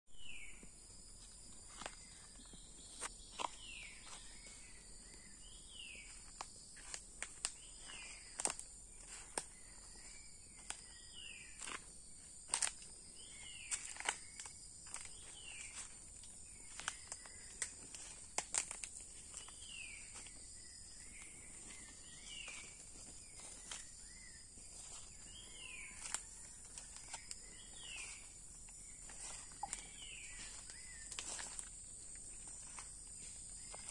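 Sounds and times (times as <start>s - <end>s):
high-pitched insect chorus: 0.1s - 33.9s
footsteps on dry leaves: 1.2s - 33.9s.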